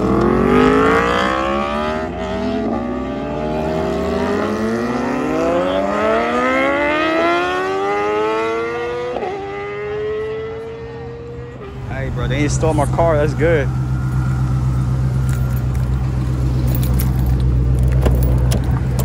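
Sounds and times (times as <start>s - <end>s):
motorcycle engine revving: 0.0s - 17.5s.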